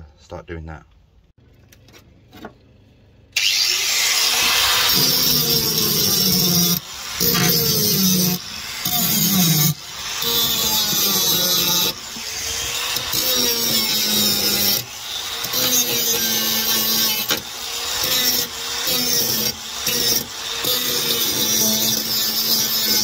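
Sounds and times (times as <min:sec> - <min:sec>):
angle grinder grinding steel: 0:03.4 - 0:23.0.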